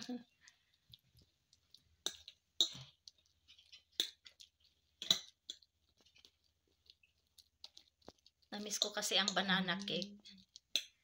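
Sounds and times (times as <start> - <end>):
fork mashing bananas on plate: 0.8 - 11.0.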